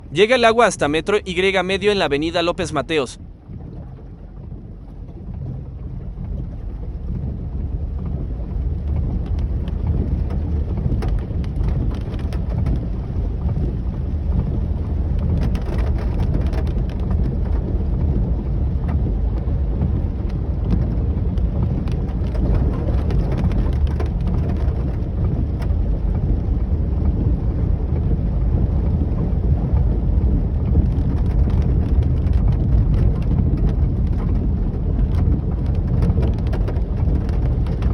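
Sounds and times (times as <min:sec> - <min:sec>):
heavy rain: 0:00.0 - 0:37.9
raindrops ticking: 0:00.0 - 0:37.9
wind on microphone: 0:00.0 - 0:37.9.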